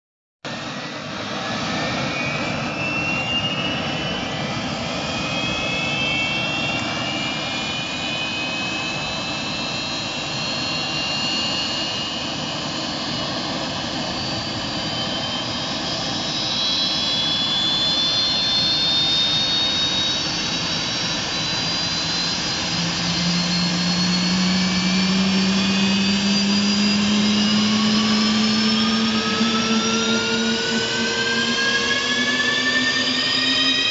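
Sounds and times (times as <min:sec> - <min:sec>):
jet engine starting up: 0:00.5 - 0:33.9.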